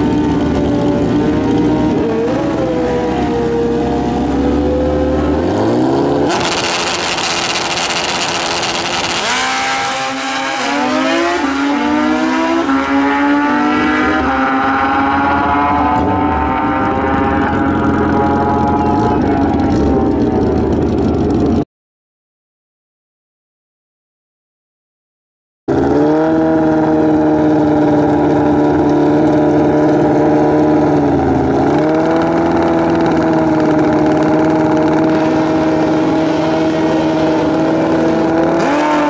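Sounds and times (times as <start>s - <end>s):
motorcycle engines revving: 0.0s - 21.6s, 25.7s - 39.0s.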